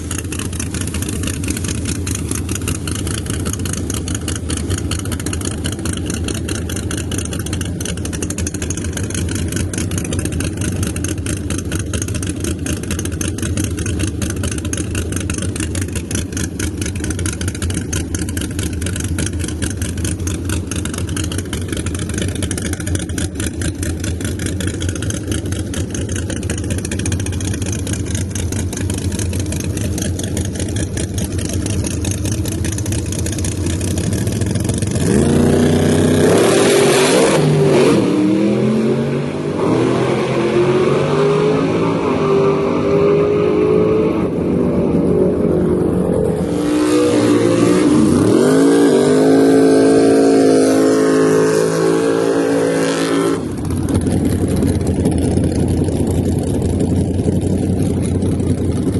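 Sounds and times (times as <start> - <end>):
car engine idling: 0.0 - 36.4, 44.2 - 58.9.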